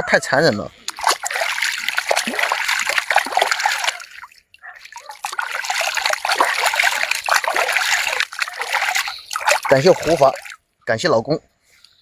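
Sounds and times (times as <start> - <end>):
water splashing and trickling: 0.3 - 10.6.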